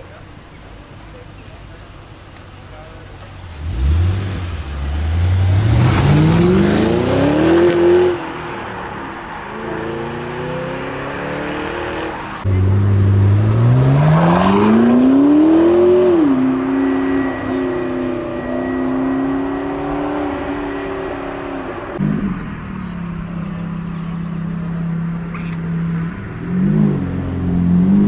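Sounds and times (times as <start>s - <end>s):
car engine accelerating hard: 1.1s - 28.0s.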